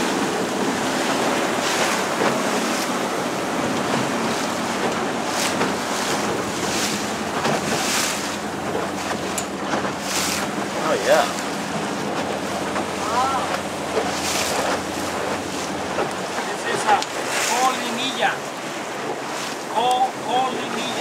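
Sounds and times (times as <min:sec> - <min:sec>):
small boat motor running: 0:00.0 - 0:21.0
surf breaking and spray: 0:00.0 - 0:21.0.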